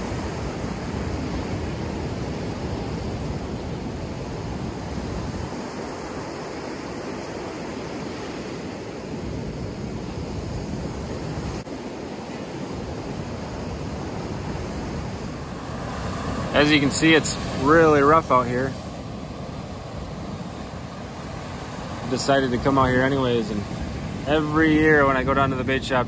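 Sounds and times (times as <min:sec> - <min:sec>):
surf breaking on a beach: 0:00.0 - 0:26.0
wind gusting on microphone: 0:00.0 - 0:26.0.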